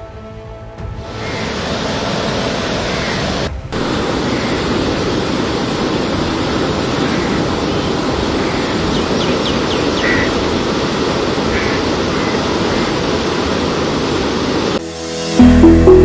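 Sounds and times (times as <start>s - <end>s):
floodwater rushing: 0.9s - 14.8s.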